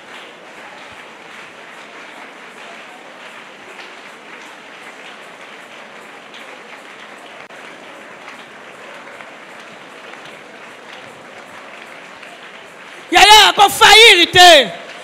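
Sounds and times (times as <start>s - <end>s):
crowd praying aloud: 0.0s - 15.0s
people clapping: 0.0s - 15.0s.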